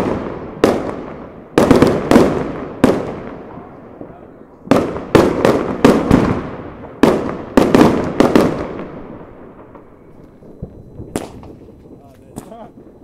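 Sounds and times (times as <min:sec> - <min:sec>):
firework bangs echoing: 0:00.0 - 0:13.0.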